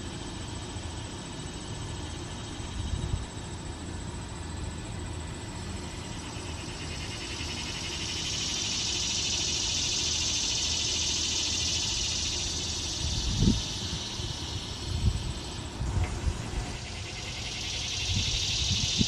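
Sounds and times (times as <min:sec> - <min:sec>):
cicada buzzing song: 0:00.0 - 0:19.0.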